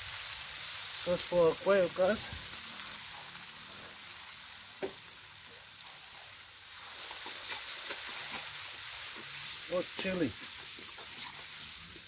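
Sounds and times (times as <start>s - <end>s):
chili sauce sizzling in a wok: 0.0s - 12.0s.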